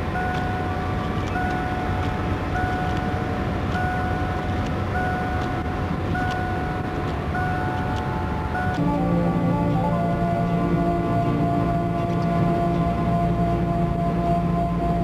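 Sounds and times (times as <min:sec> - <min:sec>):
car interior running noise: 0:00.0 - 0:15.0
repeating steady tone: 0:00.0 - 0:15.0.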